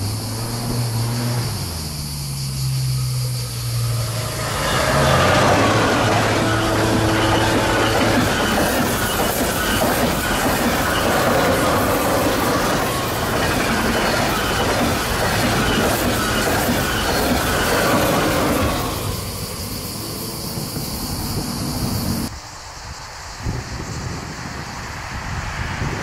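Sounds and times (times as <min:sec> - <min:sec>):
faint wind noise: 0:00.0 - 0:26.0
high-speed train passing: 0:00.0 - 0:26.0.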